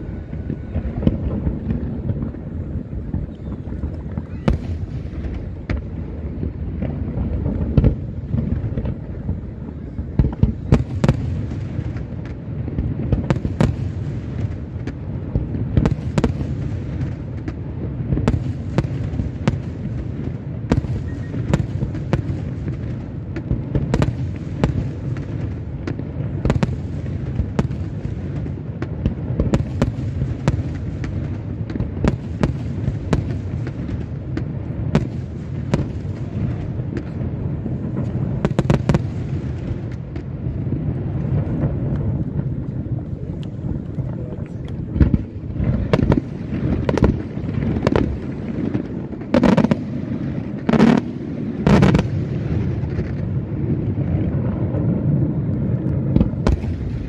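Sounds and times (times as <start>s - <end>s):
fireworks cracks and bangs: 0.0s - 57.0s
fireworks deep rumble: 0.0s - 57.0s.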